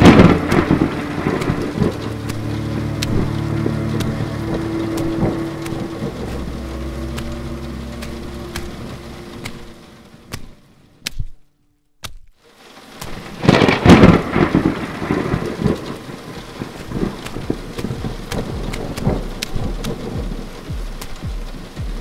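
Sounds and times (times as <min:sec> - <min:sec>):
thunderclap rumbling: 0:00.0 - 0:10.8, 0:13.1 - 0:22.0
rain falling: 0:00.0 - 0:11.4, 0:12.4 - 0:22.0
low steady hum: 0:00.0 - 0:11.8, 0:13.3 - 0:22.0.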